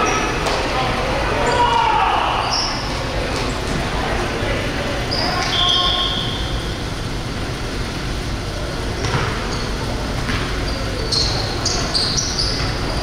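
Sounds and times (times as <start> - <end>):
gym background rumble: 0.0 - 13.0.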